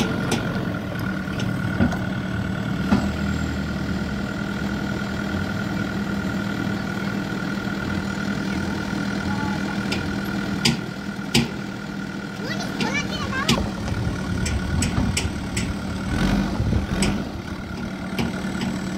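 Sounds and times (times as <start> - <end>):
diesel engine running at low revs: 0.0 - 18.9.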